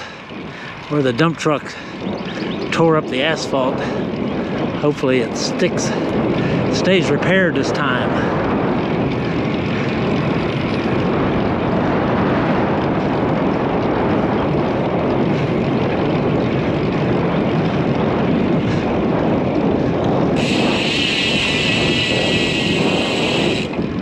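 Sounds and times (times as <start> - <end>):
bike tyres rolling on asphalt: 0.0 - 24.0
wind on microphone: 0.0 - 24.0.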